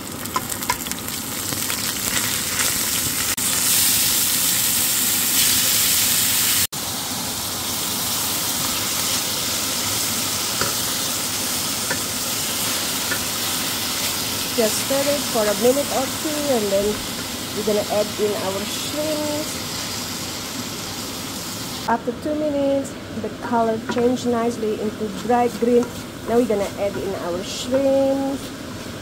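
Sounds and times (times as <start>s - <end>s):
food sizzling in oil: 0.0s - 21.9s, 23.4s - 29.0s.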